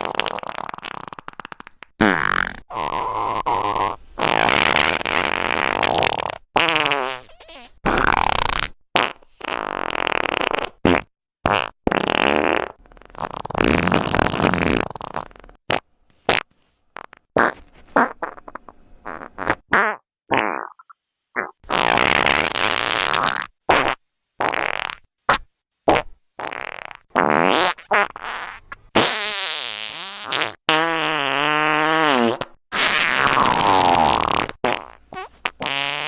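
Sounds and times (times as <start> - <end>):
fart noises: 0.0 - 20.8, 21.4 - 36.0.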